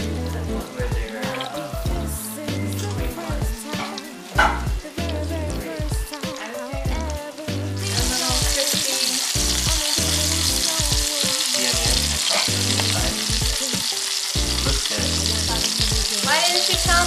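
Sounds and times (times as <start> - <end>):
patties sizzling in hot oil: 0.0 - 17.0.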